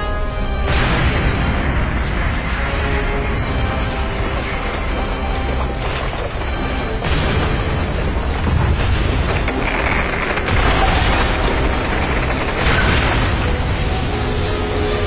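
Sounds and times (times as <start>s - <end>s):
background music: 0.0s - 15.0s
explosion rumble and blasts: 0.6s - 15.0s.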